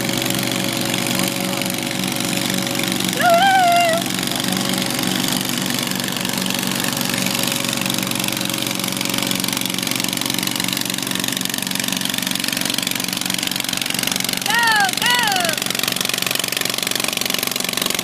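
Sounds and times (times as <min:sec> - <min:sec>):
small tractor engine running: 0:00.0 - 0:03.2, 0:04.0 - 0:18.0.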